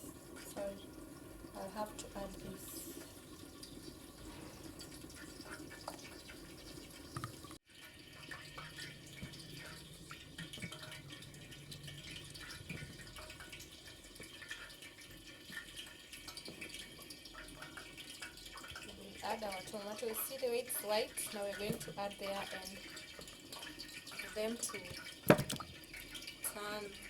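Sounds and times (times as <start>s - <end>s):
faint kitchen water sounds: 0.0s - 27.0s.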